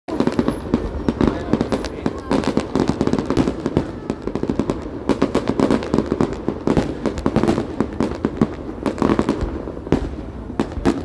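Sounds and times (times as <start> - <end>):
fireworks bangs and crackles: 0.1 - 11.0.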